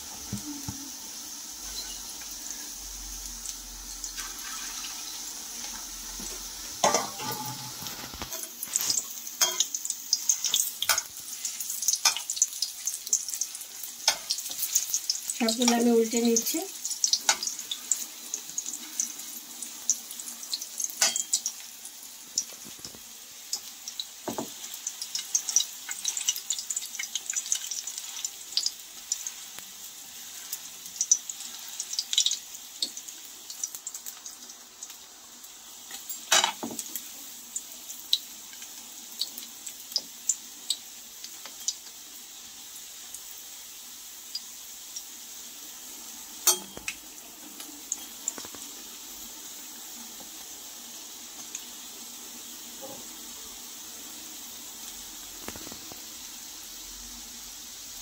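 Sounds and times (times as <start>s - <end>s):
frying sizzle with crackling pops: 0.0s - 58.0s.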